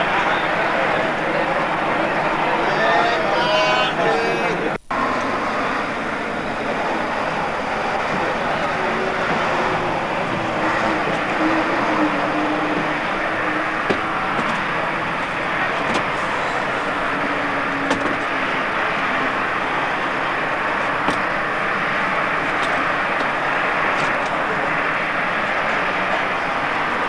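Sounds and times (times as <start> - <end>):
truck diesel engine running: 4.5 - 27.0.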